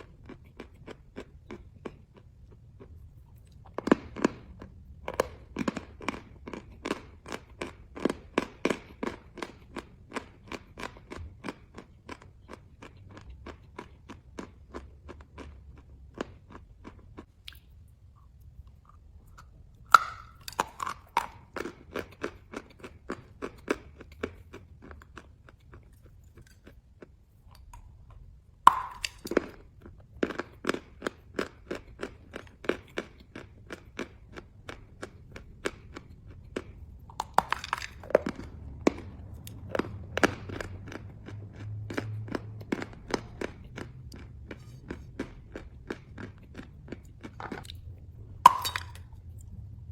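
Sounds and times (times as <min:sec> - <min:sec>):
chalk crunching being chewed: 0:00.0 - 0:49.6.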